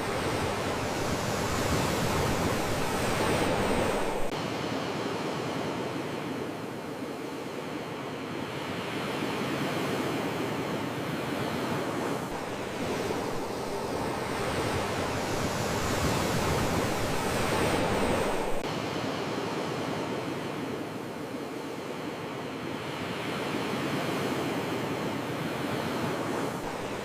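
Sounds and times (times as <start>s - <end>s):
sea waves washing ashore: 0.0s - 27.0s.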